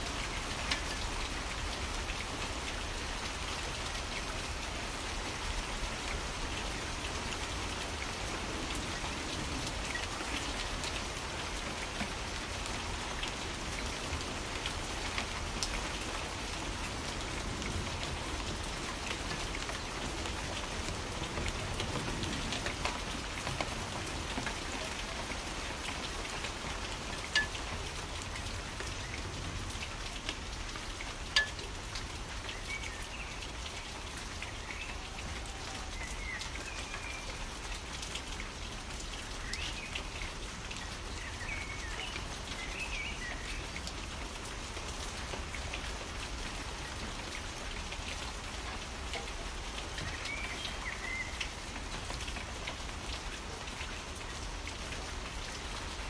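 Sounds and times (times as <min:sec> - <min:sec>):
raindrops striking close by: 0:00.0 - 0:56.0
steady rain falling: 0:00.0 - 0:56.0.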